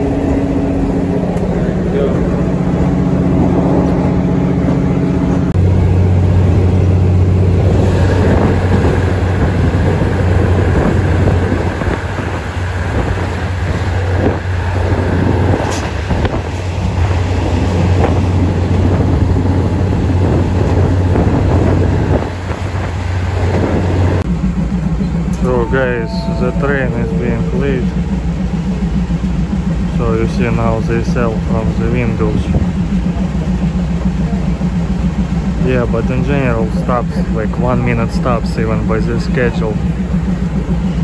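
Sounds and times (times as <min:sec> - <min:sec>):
train running drone: 0:00.0 - 0:41.0.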